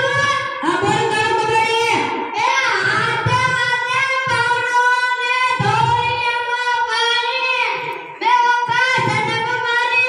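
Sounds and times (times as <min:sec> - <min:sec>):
child singing into a microphone: 0:00.0 - 0:10.0.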